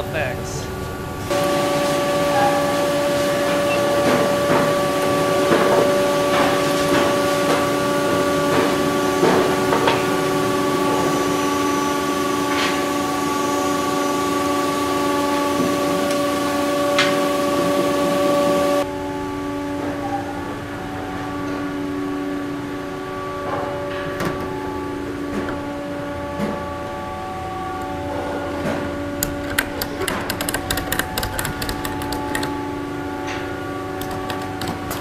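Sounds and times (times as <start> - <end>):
sustained chord: 0.0 - 29.4.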